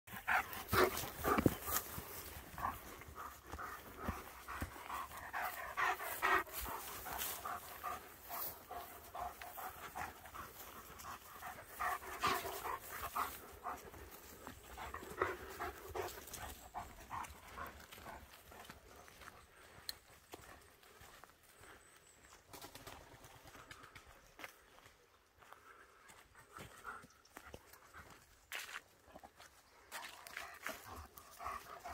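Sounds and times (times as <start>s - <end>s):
dogs panting: 0.1s - 31.9s.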